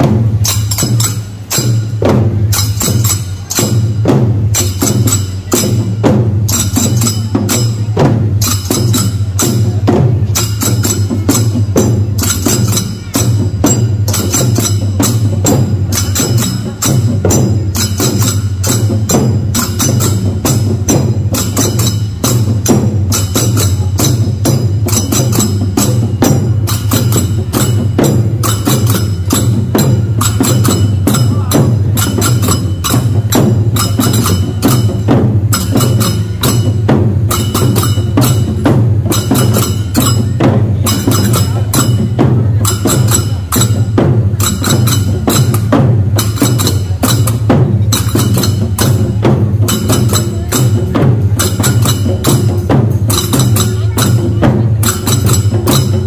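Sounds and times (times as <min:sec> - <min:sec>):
drum beaten with a stick: 0:00.0 - 0:56.0
hand cymbals clashing: 0:00.0 - 0:56.0.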